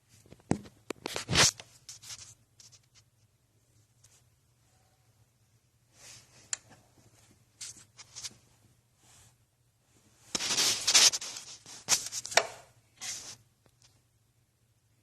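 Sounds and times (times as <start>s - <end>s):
rustling and scraping: 0.0s - 4.3s, 5.9s - 14.0s.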